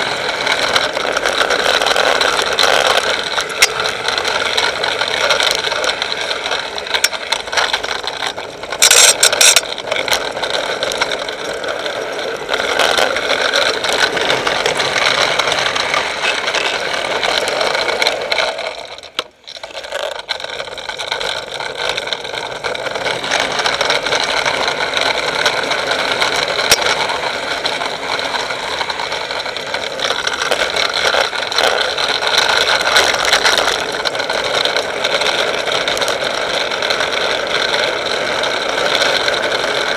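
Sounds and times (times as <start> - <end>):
wheels rolling on asphalt: 0.0 - 39.9
wheels scraping: 0.0 - 39.9.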